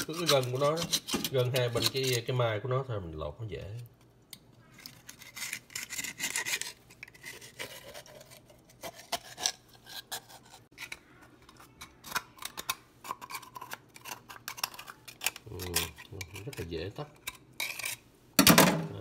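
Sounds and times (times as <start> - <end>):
knife scraping inside shell: 0.0 - 2.4, 4.7 - 18.1.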